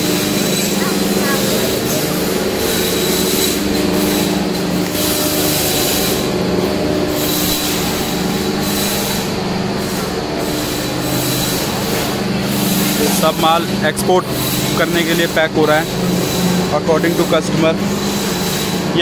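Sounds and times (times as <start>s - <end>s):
factory machinery hum: 0.0s - 19.0s
rushing grinding noise: 0.0s - 19.0s.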